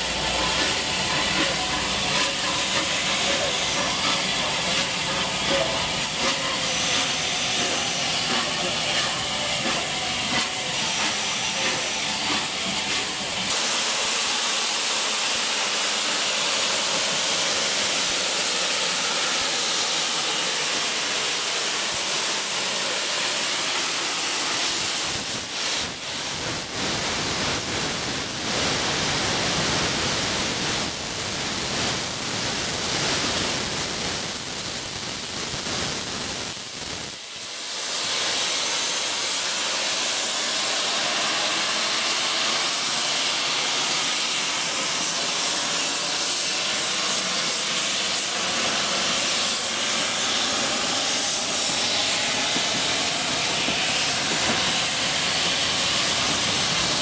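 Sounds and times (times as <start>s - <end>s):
steam locomotive puffs: 0.0s - 30.0s, 37.4s - 57.0s
steam hissing loudly: 0.0s - 57.0s.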